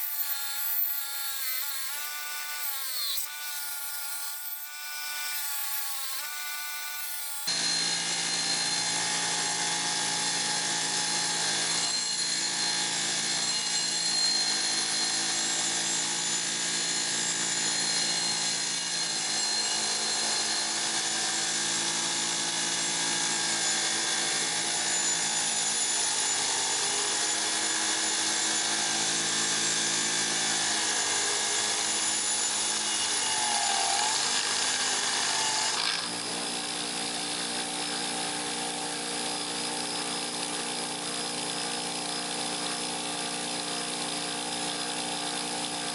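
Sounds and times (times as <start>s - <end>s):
electric power tool running: 0.0s - 45.9s.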